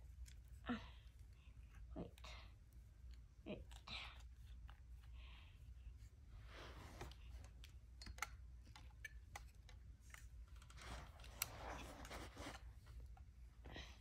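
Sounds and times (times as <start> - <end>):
soft rustling: 0.0 - 7.8, 9.4 - 13.8.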